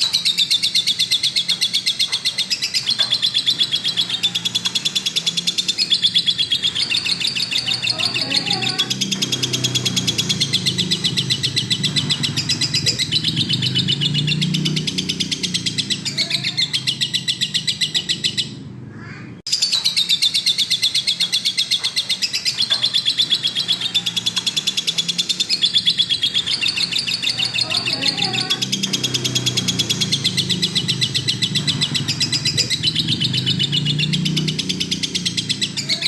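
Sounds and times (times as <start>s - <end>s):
lovebird chattering: 0.0s - 36.0s.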